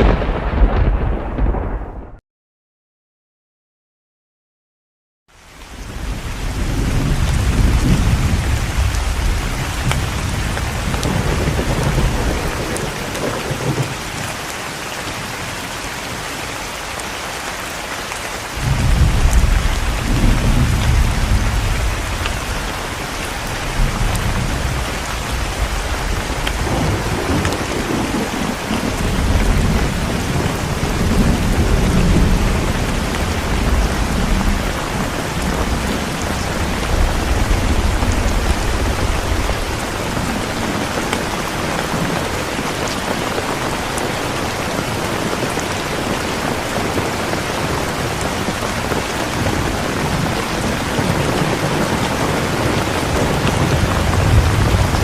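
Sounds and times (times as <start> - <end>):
heavy rain: 0.0 - 2.2, 5.3 - 55.0
thunder rumbling: 0.0 - 2.2, 5.7 - 16.9, 18.5 - 55.0.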